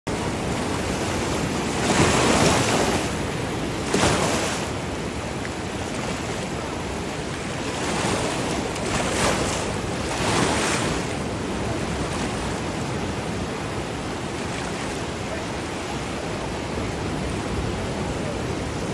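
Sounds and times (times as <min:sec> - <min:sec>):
waves lapping at shore: 0:00.1 - 0:18.9
wind on microphone: 0:00.1 - 0:18.9.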